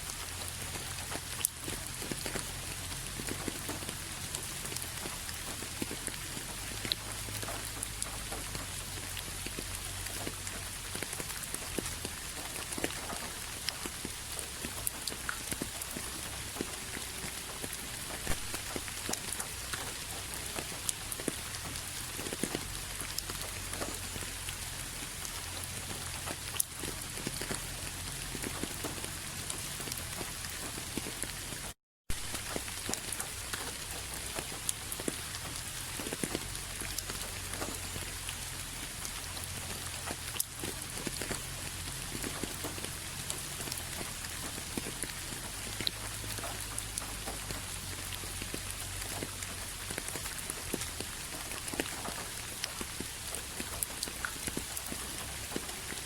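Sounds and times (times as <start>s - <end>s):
raindrops ticking on a surface: 0.0s - 56.0s
steady rain falling: 0.0s - 56.0s.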